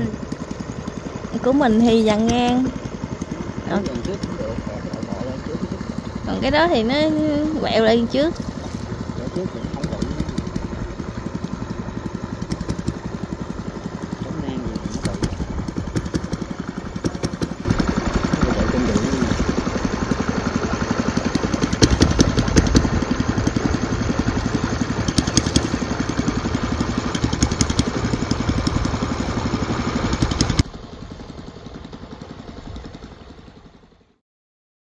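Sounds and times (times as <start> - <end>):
boat engine puttering: 0.0 - 34.1.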